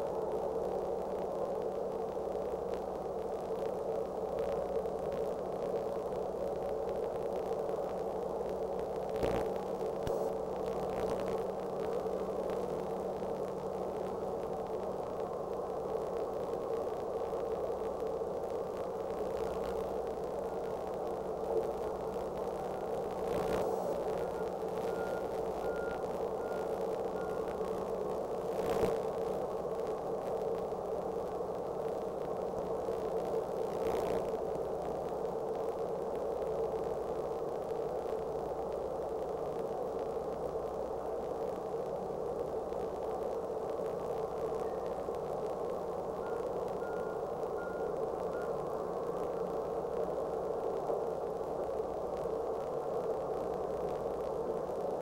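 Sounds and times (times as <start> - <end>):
constant hum: 0.0 - 55.0.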